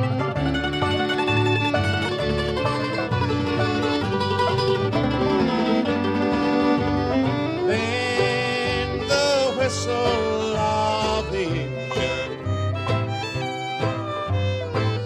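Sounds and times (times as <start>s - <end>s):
banjo: 0.0s - 15.0s
guitar: 0.0s - 15.0s
plucked bass: 0.0s - 15.0s
sliding fiddle: 0.0s - 15.0s.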